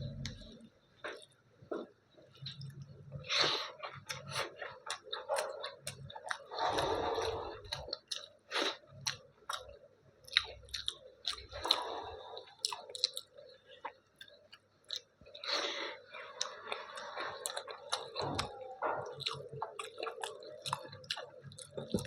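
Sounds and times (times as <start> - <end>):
chewing and wet mouth smacking: 2.3 - 22.0.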